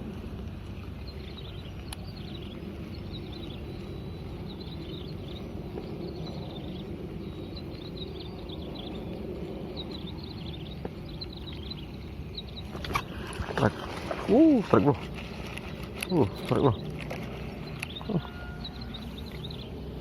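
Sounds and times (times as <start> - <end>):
low rumbling background: 0.0 - 20.0
small birds chirping: 0.6 - 20.0.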